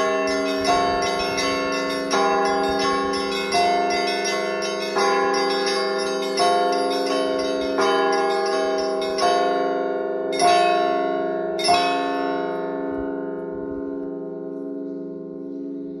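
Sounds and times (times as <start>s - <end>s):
large bells humming: 0.0s - 15.0s
small church bells striking: 0.0s - 15.8s.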